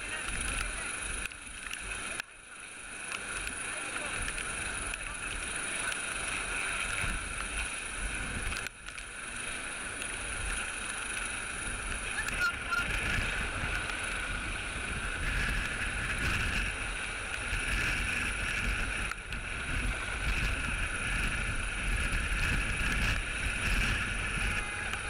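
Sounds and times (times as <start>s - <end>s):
rotor downwash buffeting microphone: 0.0s - 25.0s.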